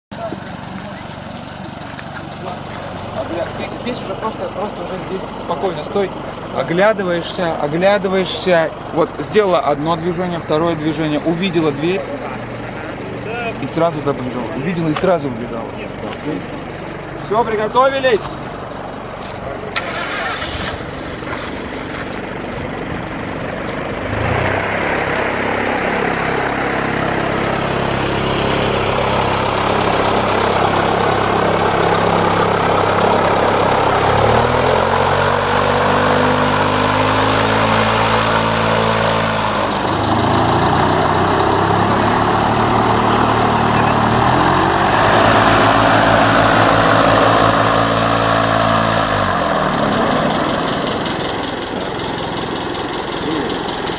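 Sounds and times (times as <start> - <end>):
engine humming: 0.1 - 53.9.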